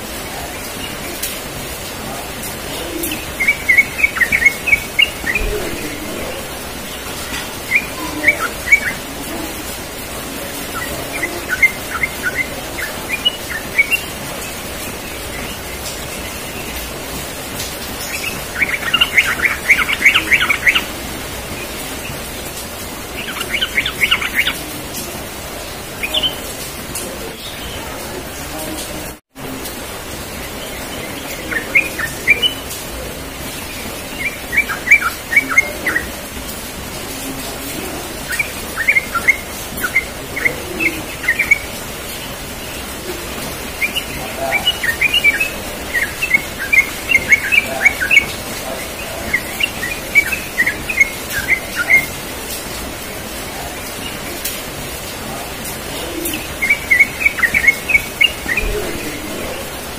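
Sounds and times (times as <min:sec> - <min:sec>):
bird chirping song: 0:00.0 - 0:28.9, 0:29.6 - 0:59.9
steady hiss: 0:00.0 - 0:59.9.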